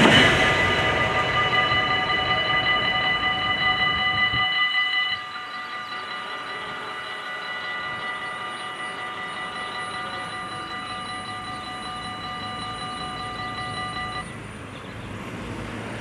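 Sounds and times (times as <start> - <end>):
level crossing bells ringing: 0.0 - 14.6
train rumble: 0.0 - 16.0.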